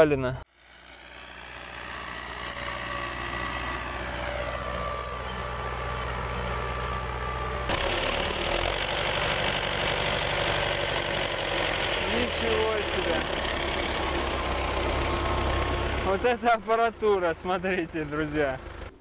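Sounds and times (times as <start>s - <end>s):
tractor engine running: 0.5s - 19.0s.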